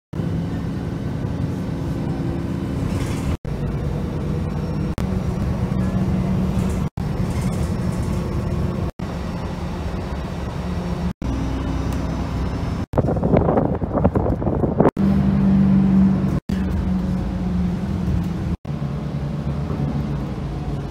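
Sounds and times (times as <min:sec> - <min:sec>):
aircraft engine rumble: 0:00.1 - 0:20.9.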